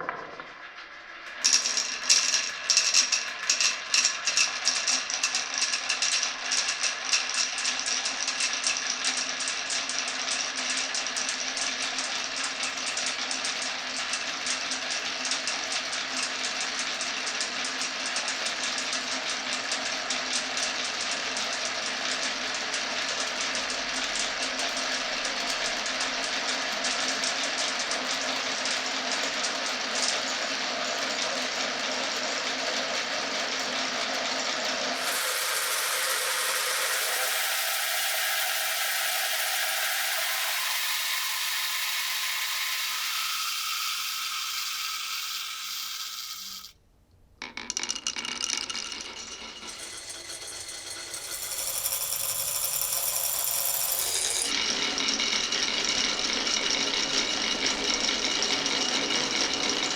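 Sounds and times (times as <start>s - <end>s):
marbles rolling and rattling on tracks: 0.0s - 46.7s, 47.4s - 59.9s.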